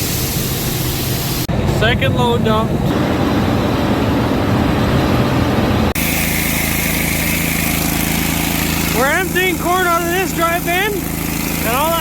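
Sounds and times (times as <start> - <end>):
farm machinery engine rumbling: 0.0 - 12.0
machinery drone with whine: 1.0 - 12.0.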